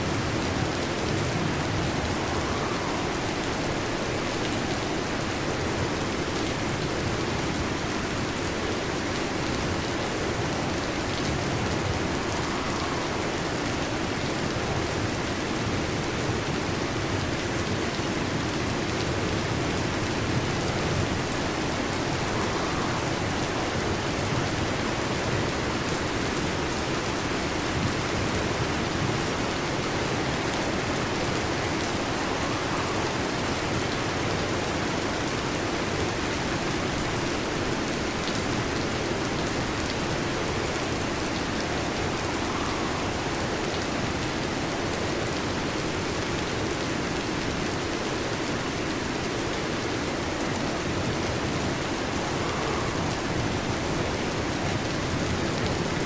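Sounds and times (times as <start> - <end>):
heavy rain on a metal roof: 0.0 - 56.0.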